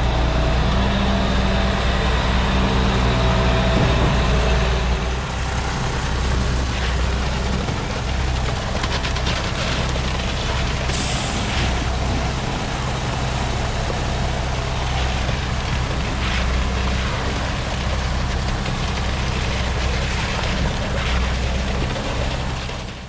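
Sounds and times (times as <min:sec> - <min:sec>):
truck diesel engine running: 0:00.0 - 0:23.0.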